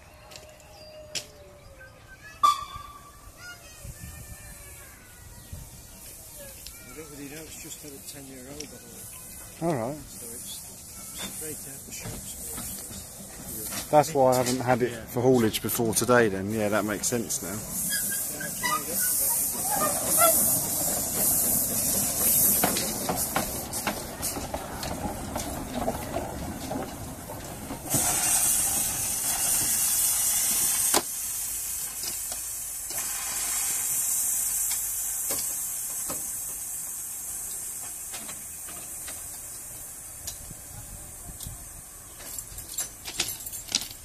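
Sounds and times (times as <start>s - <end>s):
steam locomotive hissing: 2.2s - 44.0s
loud steam escaping hiss: 2.5s - 43.0s
wheels clicking on track: 5.9s - 44.0s.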